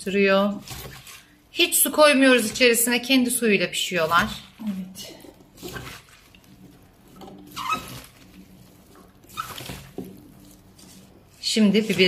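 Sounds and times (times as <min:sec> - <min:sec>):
wet squelches of tossed vegetables: 0:00.0 - 0:12.0.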